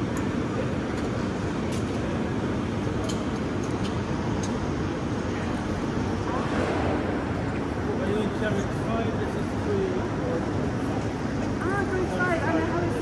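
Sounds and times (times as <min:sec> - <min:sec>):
train rumbling at platform: 0:00.0 - 0:13.0.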